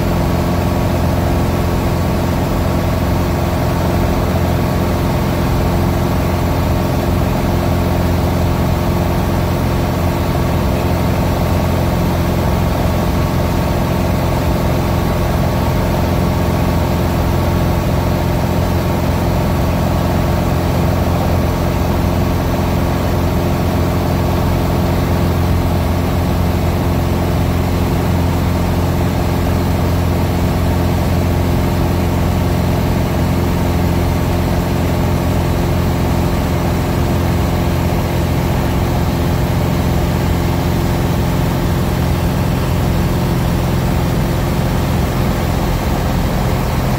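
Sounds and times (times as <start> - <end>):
aircraft engine and propeller hum: 0.0 - 46.9.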